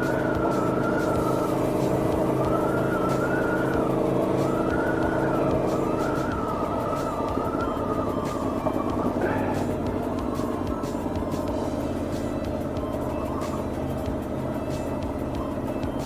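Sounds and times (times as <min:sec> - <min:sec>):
motorcycle engine cruising: 0:00.0 - 0:16.0
wavering high tone: 0:00.0 - 0:16.0.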